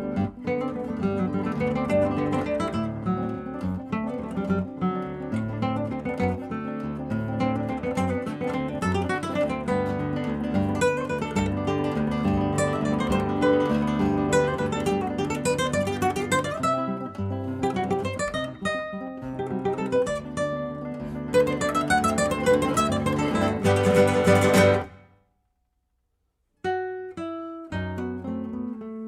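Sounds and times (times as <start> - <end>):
acoustic guitar plucked and strummed: 0.0 - 25.1, 26.6 - 29.0.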